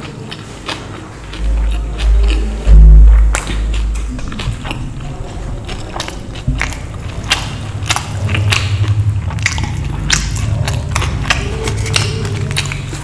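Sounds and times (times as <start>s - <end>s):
person chewing food: 0.0s - 13.0s
wet lip and tongue smacks: 0.0s - 13.0s.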